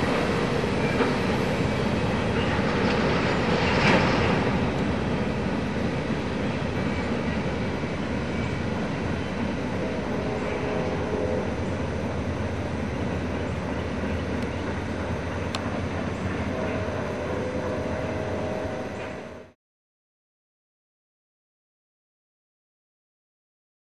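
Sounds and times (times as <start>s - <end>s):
freight train wheels rumbling on rail: 0.0s - 19.6s.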